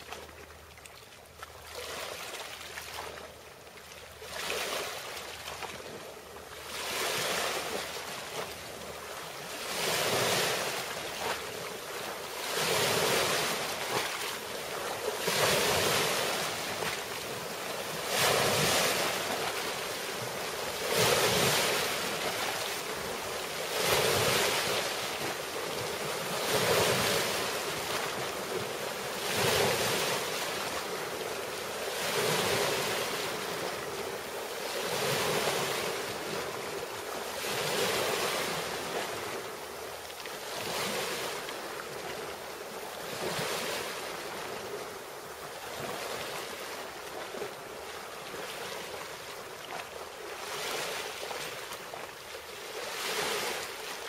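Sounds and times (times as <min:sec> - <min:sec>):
waves washing in: 0:00.0 - 0:54.0.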